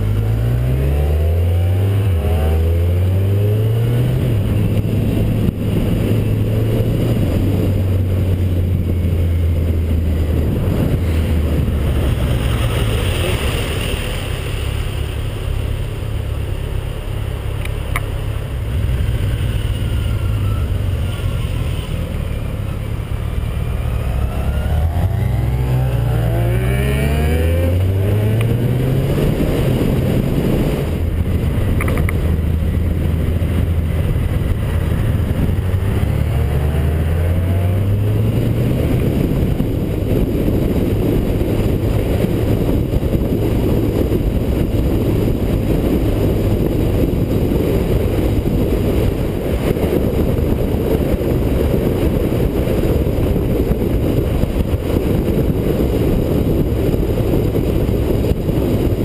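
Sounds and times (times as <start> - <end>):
motorcycle engine accelerating: 0.0 - 59.0
wind on microphone: 0.0 - 59.0.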